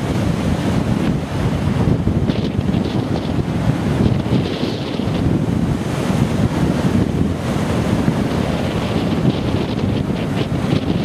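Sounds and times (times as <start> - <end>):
storm surf breaking: 0.0 - 11.0
wind buffeting microphone: 0.0 - 11.0.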